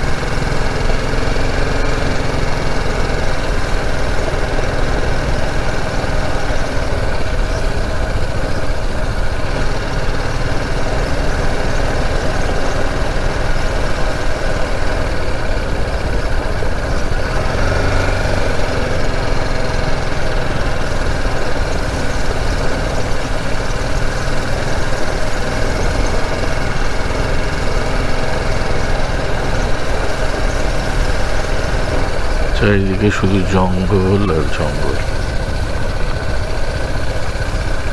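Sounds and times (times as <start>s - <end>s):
motorcycle engine rumbling: 0.0s - 37.9s.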